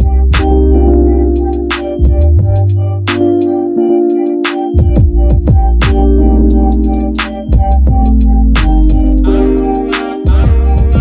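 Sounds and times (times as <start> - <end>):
deep bass line: 0.0 - 11.0
synthesizer chords: 0.0 - 11.0.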